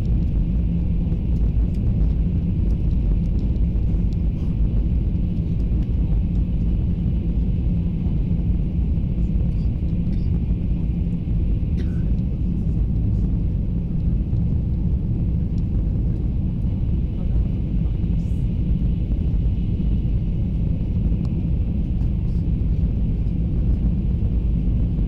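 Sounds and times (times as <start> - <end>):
train rumble from inside: 0.0 - 25.0.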